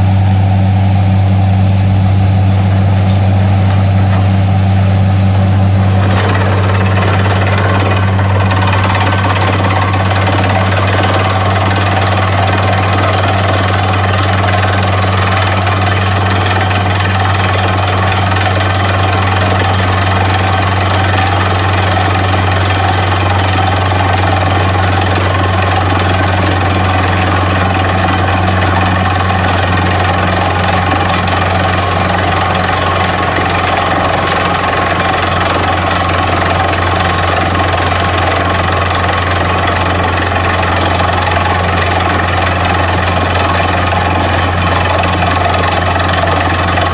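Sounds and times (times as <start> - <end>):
drilling rig droning: 0.0 - 46.9.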